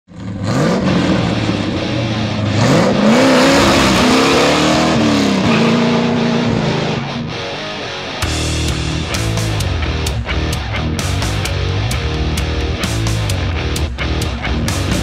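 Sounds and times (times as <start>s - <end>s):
car engine revving: 0.1s - 15.0s
tyre and road noise: 0.1s - 15.0s.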